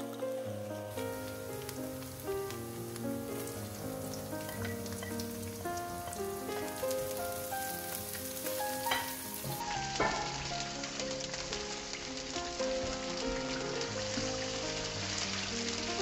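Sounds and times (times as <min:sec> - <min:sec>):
food sizzling in hot oil: 0:00.0 - 0:16.0
gentle instrumental music: 0:00.0 - 0:16.0.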